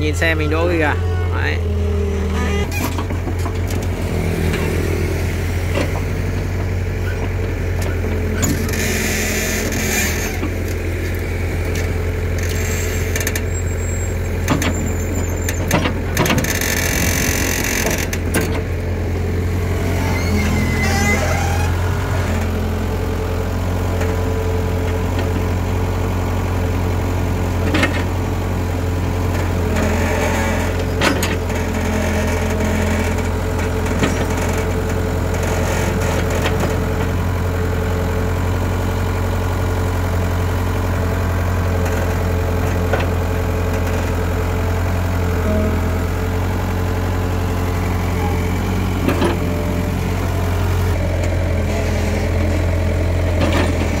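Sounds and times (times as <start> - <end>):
excavator and truck engines running: 0.0 - 54.0.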